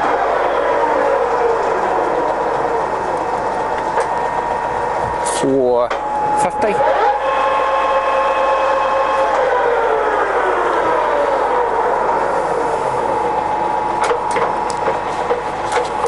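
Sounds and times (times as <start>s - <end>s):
lathe headstock whining: 0.0s - 16.0s.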